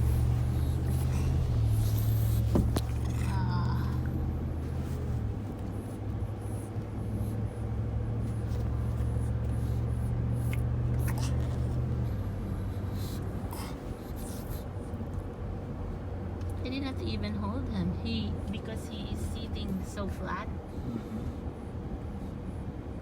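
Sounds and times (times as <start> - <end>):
truck engine and road drone: 0.0 - 23.0.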